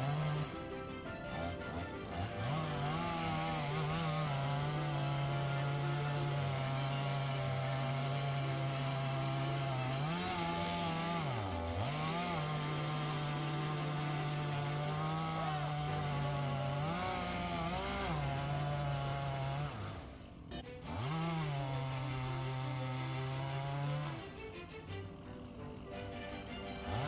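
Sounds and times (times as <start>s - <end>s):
chainsaw running at high revs: 0.0s - 27.0s.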